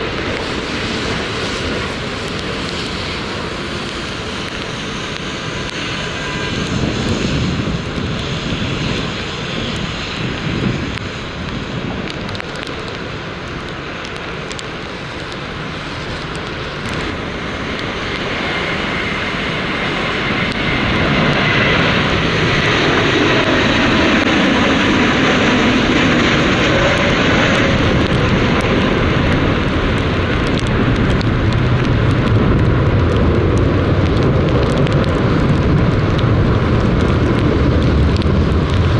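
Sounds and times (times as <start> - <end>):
jet engines whining: 0.0 - 38.9
wind buffeting microphone: 0.0 - 38.9.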